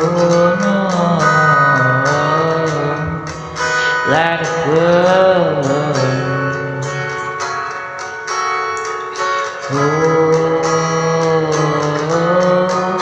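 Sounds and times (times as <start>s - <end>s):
guitar accompaniment: 0.0s - 13.0s.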